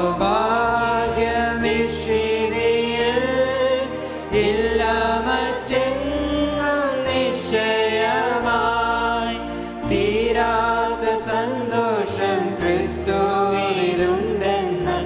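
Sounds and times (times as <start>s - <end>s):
singers performing a hymn: 0.0s - 15.0s.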